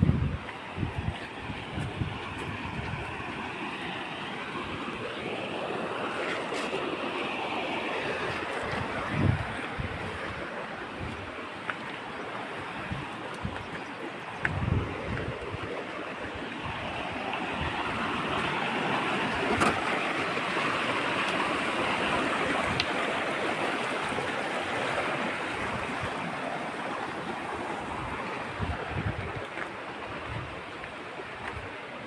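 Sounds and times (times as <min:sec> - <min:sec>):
stream rushing over stones: 0:00.0 - 0:32.0.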